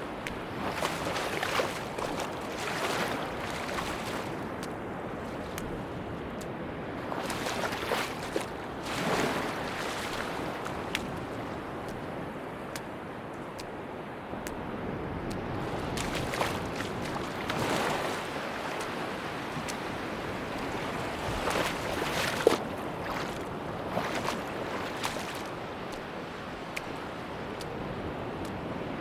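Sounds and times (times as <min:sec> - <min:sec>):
sea waves washing onto beach: 0:00.0 - 0:29.0.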